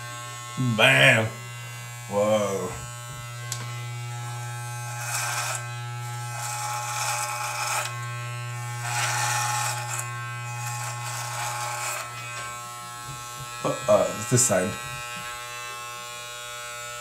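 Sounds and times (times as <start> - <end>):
electric hair clippers humming: 0.0 - 17.0
clippers rasping through beard: 1.4 - 17.0.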